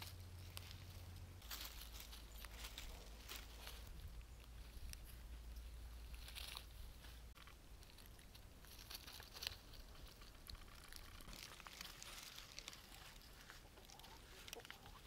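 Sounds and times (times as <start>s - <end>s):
crackling in dry leaves: 0.0s - 15.0s.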